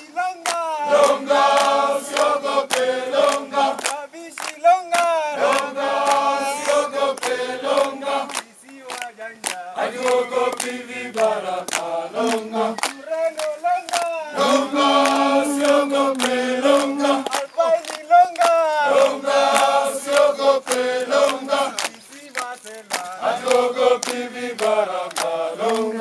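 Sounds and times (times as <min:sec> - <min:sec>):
group singing call and response: 0:00.0 - 0:26.0
hand claps: 0:00.0 - 0:26.0.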